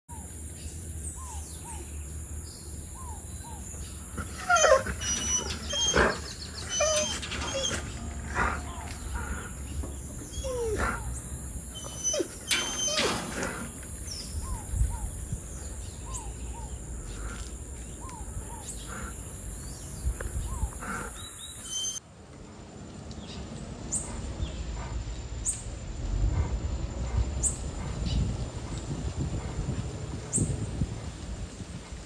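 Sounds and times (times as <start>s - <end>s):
birds calling: 0.1s - 22.0s, 23.2s - 32.0s
low wind rumble: 0.1s - 32.0s.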